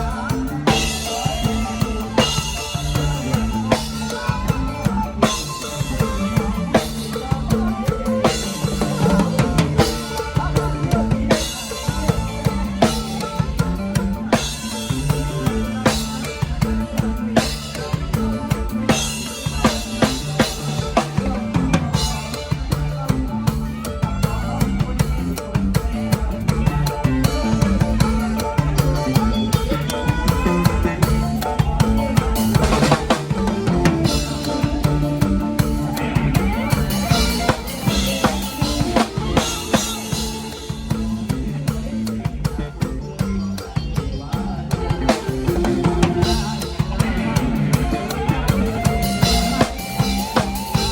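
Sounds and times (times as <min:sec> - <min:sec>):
drum kit beat: 0:00.0 - 0:50.9
lively band music: 0:00.0 - 0:50.9.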